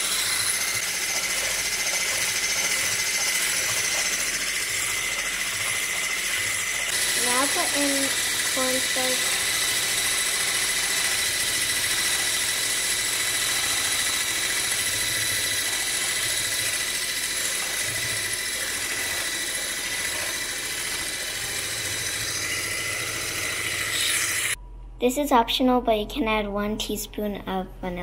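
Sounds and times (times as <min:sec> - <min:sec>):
electric hand mixer whining: 0:00.0 - 0:24.6.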